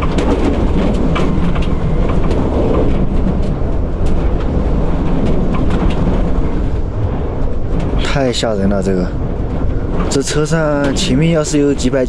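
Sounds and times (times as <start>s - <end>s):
low rumble of wind: 0.0s - 12.0s
vehicle body rattling and knocking: 0.0s - 12.0s.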